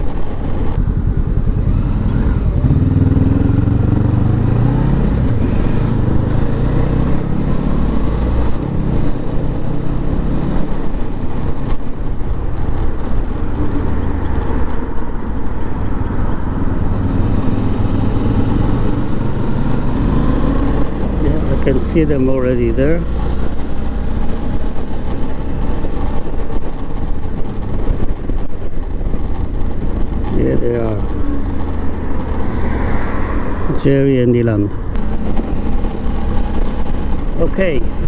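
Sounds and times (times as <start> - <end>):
motorcycle engine accelerating: 0.0 - 38.0
wind rush: 0.0 - 38.0.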